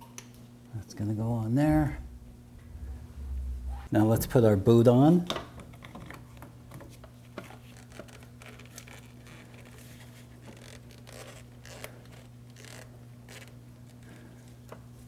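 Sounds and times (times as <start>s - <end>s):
steady low hum: 0.3s - 15.0s.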